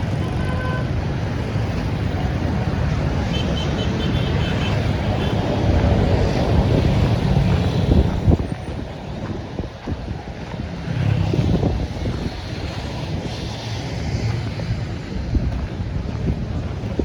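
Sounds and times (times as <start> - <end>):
street traffic: 0.0 - 17.0
wind buffeting microphone: 0.0 - 17.0.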